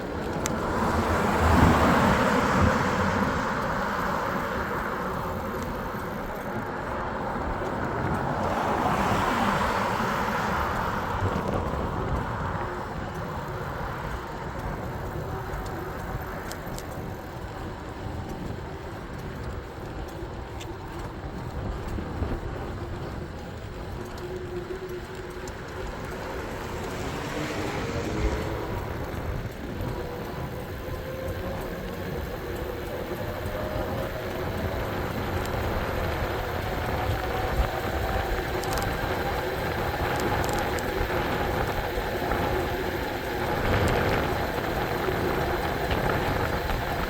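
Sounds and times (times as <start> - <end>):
road noise rumble: 0.0 - 47.0
traffic: 0.0 - 47.0.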